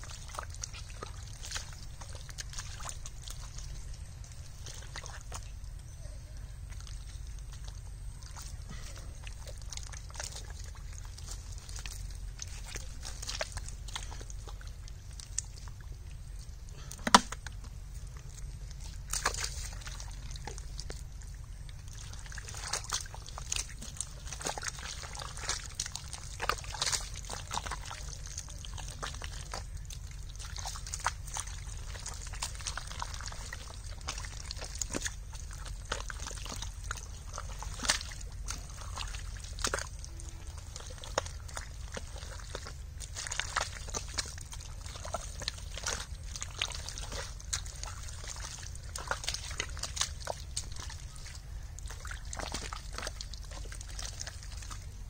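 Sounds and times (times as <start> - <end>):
hands squelching in wet mud: 0.0 - 55.0
low rumble: 0.0 - 55.0.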